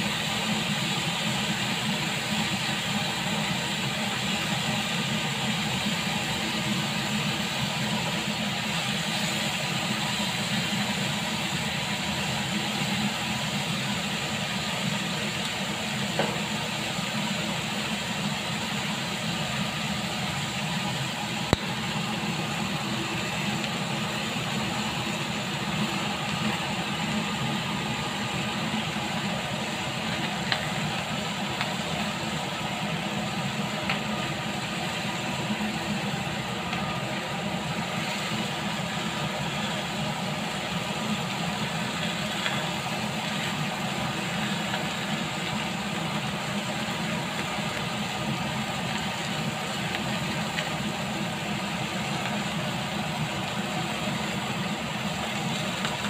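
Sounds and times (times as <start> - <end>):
meat sizzling in a grill pan: 0.0 - 56.0.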